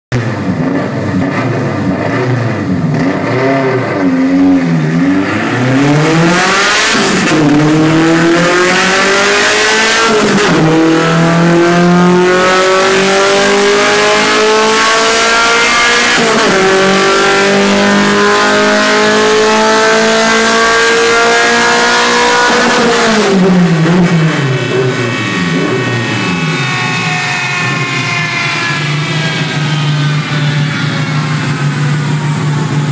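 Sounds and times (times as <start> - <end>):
race car engine revving: 0.2 - 32.9.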